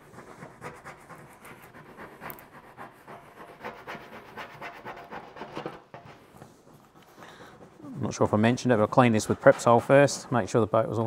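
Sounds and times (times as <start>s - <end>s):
plastic spreader rubbing sticker: 0.0s - 11.0s.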